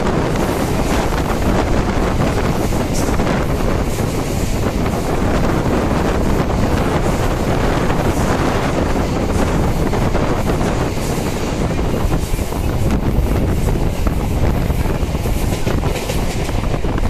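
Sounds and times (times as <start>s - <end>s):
train running noise: 0.0s - 17.0s
wind buffeting microphone: 0.0s - 17.0s.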